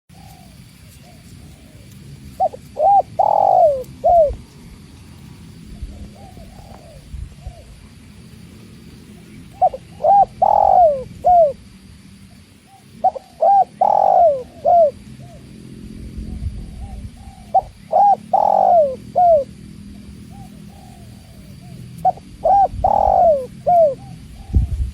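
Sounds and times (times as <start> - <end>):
dove cooing: 0.1 - 4.5, 5.3 - 24.9.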